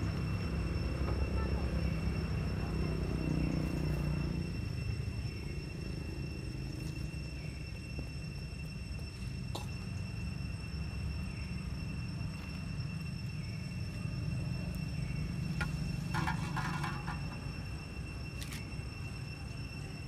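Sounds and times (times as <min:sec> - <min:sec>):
high-pitched whines: 0:00.0 - 0:20.0.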